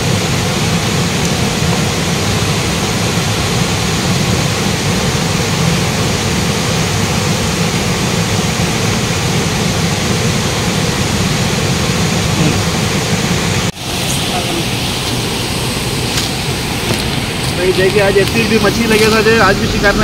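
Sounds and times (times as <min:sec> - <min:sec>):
river rushing over rocks: 0:00.0 - 0:20.0.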